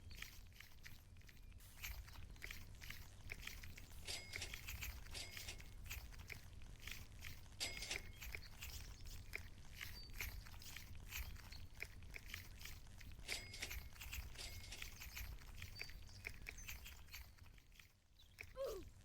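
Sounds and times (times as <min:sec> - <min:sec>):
faint crackling and crunching: 0:00.0 - 0:19.0.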